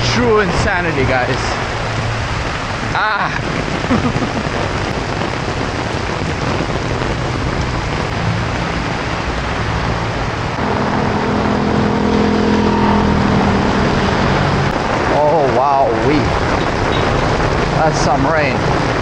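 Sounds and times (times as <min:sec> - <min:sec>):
car traffic: 0:00.0 - 0:19.0
torrential rain on street: 0:00.0 - 0:19.0
vehicle engine hum: 0:00.0 - 0:19.0.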